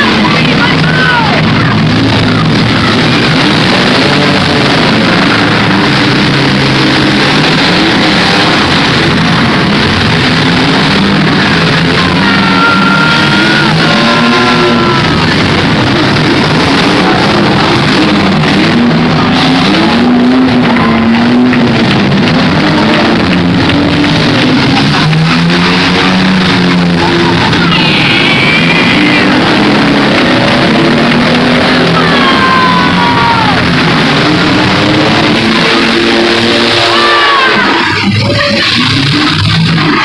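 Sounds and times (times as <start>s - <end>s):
car engines revving: 0.0s - 40.0s
loud rock music: 0.0s - 40.0s.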